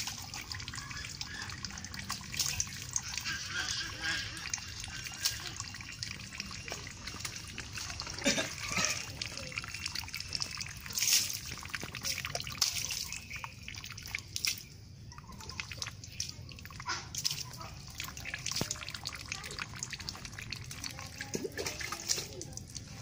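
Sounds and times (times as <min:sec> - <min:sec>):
water splashing and dripping: 0:00.0 - 0:23.0.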